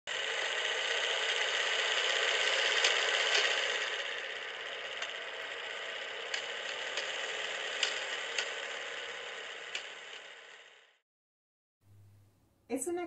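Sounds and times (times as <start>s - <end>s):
mechanical whirring and rattling: 0.1s - 11.0s.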